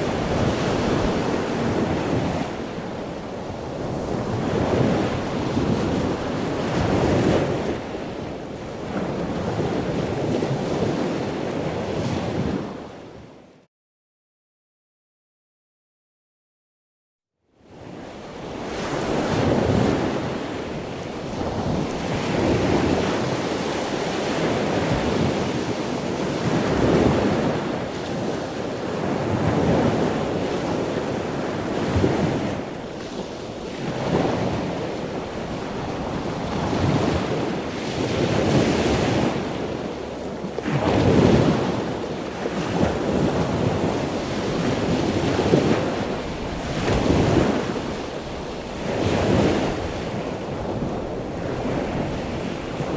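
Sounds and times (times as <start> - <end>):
ocean waves breaking: 0.0 - 12.8, 18.5 - 52.9.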